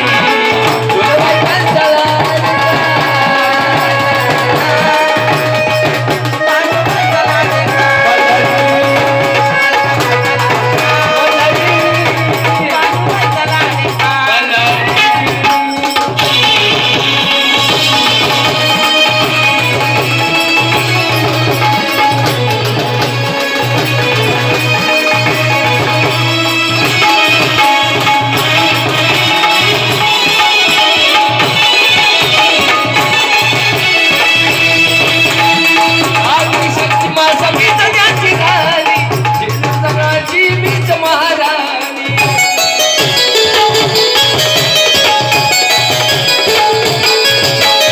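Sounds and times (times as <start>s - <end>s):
hand drum rhythm: 0.0s - 47.9s
keyboard melody: 0.0s - 47.9s.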